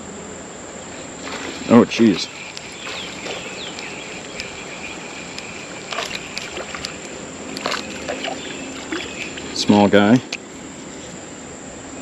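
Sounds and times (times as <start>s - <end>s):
insect trill: 0.1s - 12.0s
creek water sloshing and splashing: 0.8s - 11.2s.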